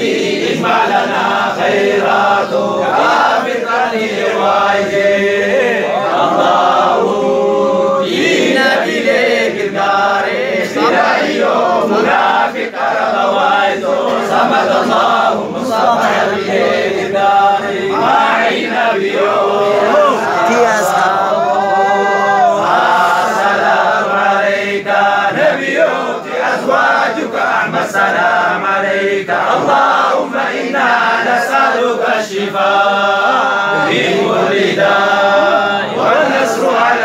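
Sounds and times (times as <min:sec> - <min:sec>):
men chanting together: 0:00.0 - 0:37.0.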